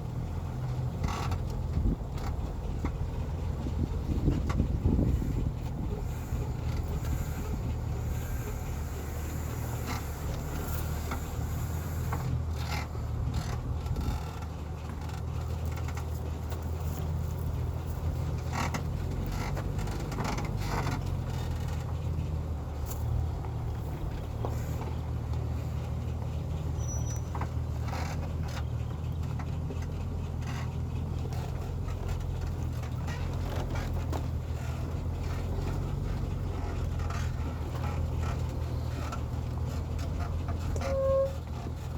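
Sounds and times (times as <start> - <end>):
truck engine low rumble: 0.0 - 41.9.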